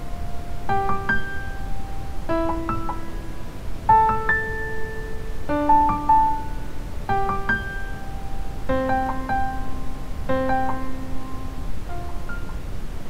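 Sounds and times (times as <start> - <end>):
slow piano-like keyboard music: 0.0 - 13.0.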